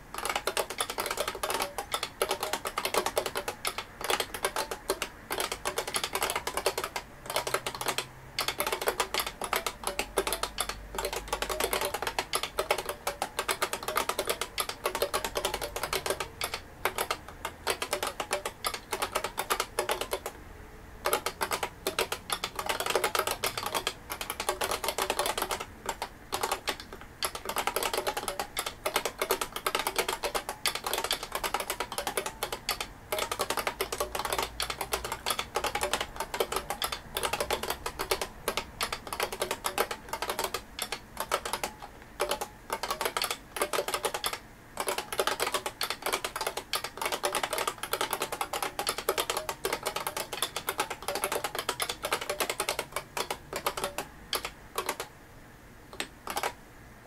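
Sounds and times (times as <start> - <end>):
fast typing on keyboard: 0.0 - 20.4, 21.0 - 55.1, 56.0 - 56.6.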